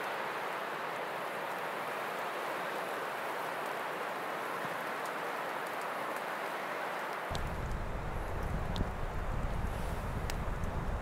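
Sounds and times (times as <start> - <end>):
wind rushing through trees: 0.0 - 11.0.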